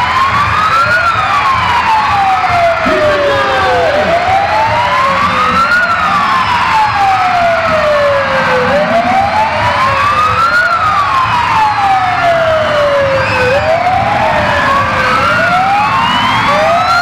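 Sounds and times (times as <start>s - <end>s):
police sirens wailing: 0.0s - 17.0s.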